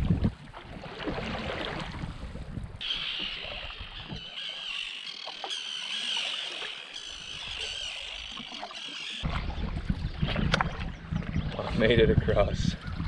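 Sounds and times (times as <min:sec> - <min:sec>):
paddle water drips and splashes: 0:00.0 - 0:11.8.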